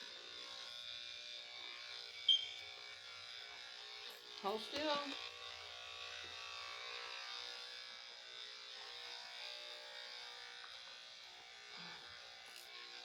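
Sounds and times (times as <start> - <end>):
electric clippers buzzing: 0.0 - 13.0.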